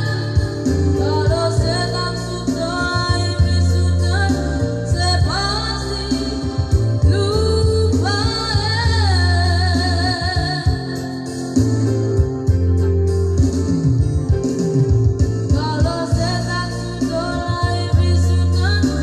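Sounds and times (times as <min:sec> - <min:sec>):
instrumental music with heavy bass: 0:00.0 - 0:19.0.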